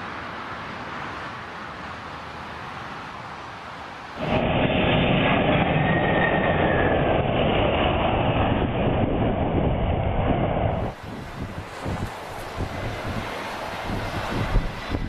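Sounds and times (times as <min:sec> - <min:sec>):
aircraft engine and wind rush: 0:00.0 - 0:15.0.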